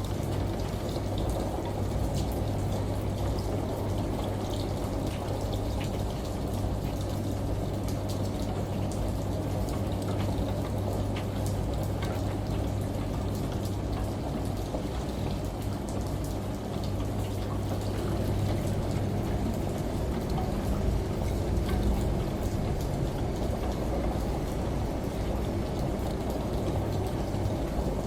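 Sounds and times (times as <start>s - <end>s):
running water: 0.0s - 28.0s
steady rain: 0.0s - 28.0s
washing machine humming: 0.0s - 28.0s
water dripping: 0.1s - 28.0s.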